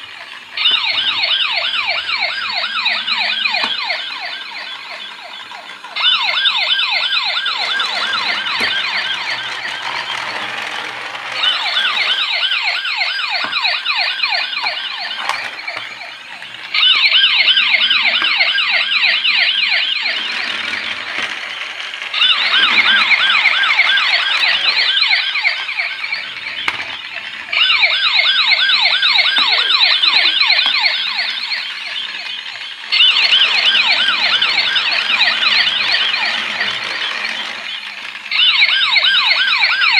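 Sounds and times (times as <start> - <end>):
toy police siren warbling: 0.0 - 39.9.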